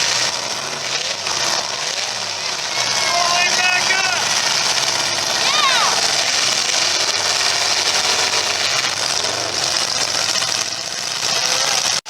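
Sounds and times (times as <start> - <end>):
car engines din: 0.0 - 12.0.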